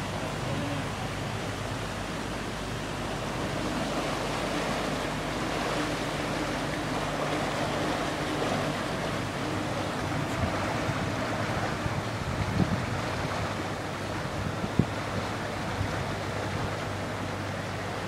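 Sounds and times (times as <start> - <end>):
rushing dockside ambience: 0.0 - 18.0.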